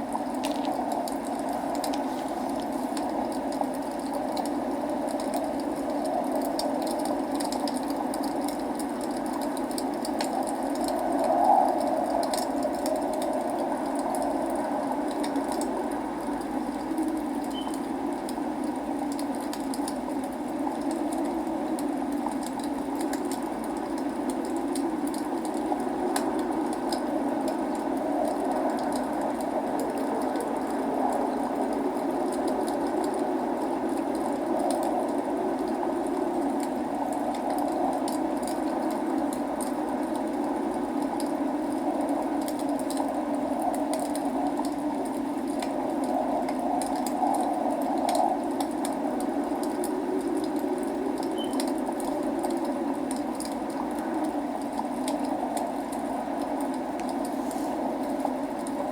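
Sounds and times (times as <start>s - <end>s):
log fire crackling: 0.0s - 58.9s
rain rushing: 0.0s - 58.9s.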